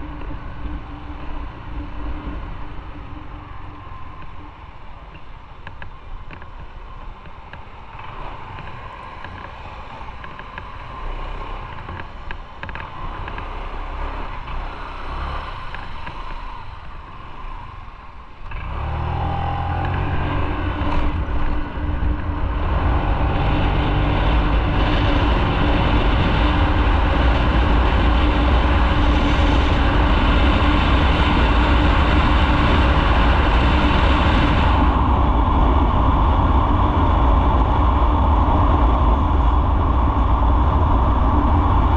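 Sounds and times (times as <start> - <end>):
wind noise: 0.0 - 41.9
motorcycle engine: 7.9 - 41.9.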